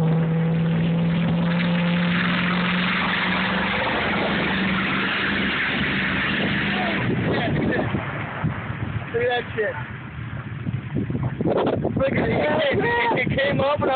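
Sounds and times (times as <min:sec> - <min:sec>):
truck engine at high revs: 0:00.0 - 0:12.8.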